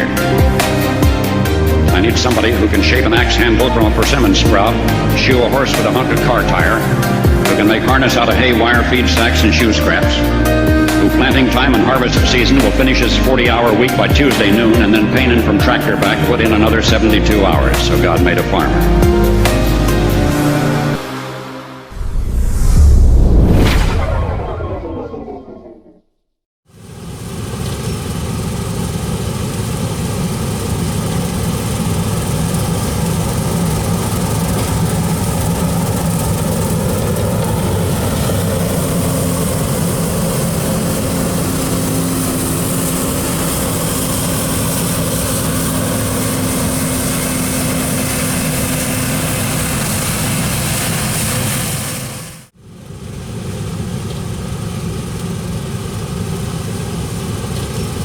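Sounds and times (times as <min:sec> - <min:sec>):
heavy machinery engine running: 0:00.0 - 0:23.3, 0:26.7 - 0:58.0.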